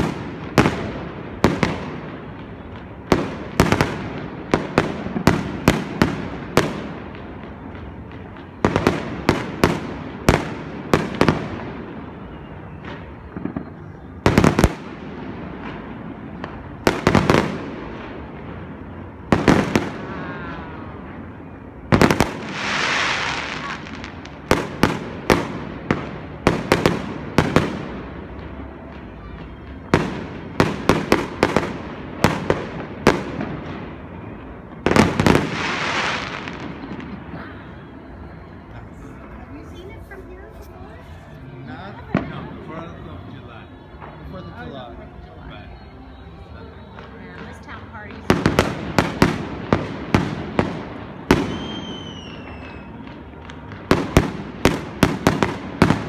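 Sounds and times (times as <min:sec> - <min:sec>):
fireworks bangs: 0:00.0 - 0:42.9, 0:46.8 - 0:56.0
hissing crackle of fireworks: 0:00.0 - 0:56.0.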